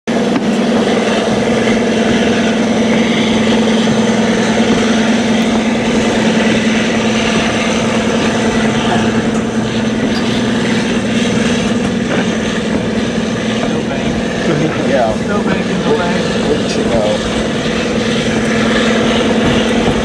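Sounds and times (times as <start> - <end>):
diesel locomotive engines purring: 0.0 - 20.0
moving train noise: 0.0 - 20.0.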